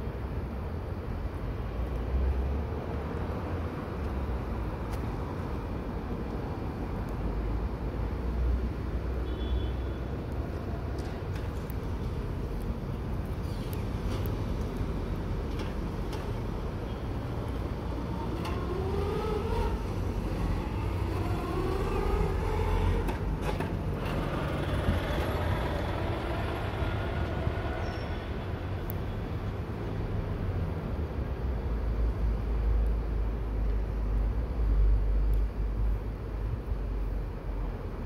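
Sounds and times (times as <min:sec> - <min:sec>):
low rumble of traffic: 0:00.0 - 0:38.0.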